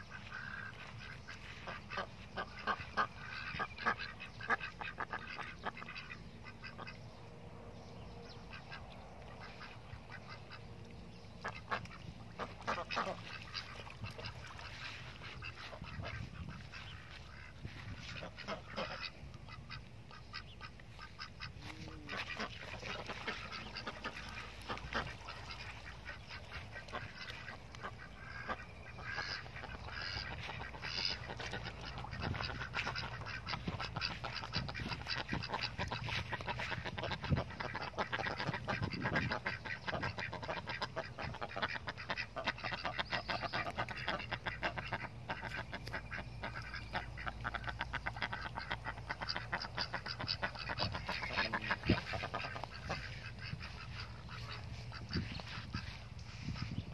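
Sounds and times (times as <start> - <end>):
ducks quacking: 0.0 - 7.1, 8.3 - 10.7, 11.4 - 56.9.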